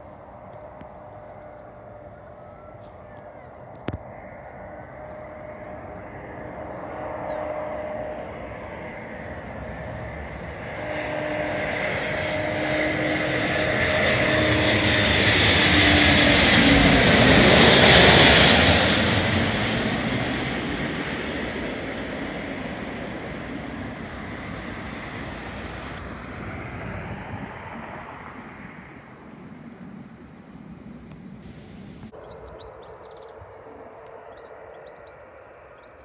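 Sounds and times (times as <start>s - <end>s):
aircraft engines passing: 0.0s - 36.0s.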